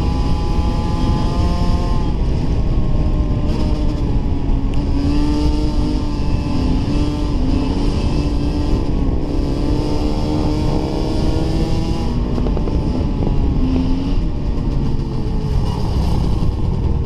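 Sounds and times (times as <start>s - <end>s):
dirt bike engine running: 0.0s - 17.0s
heavy low rumble: 0.0s - 17.0s.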